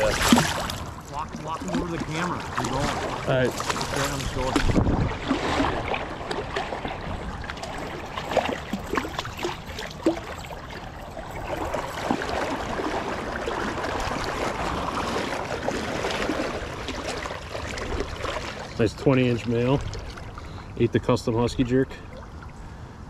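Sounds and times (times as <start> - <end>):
water splashing around legs: 0.0 - 20.8.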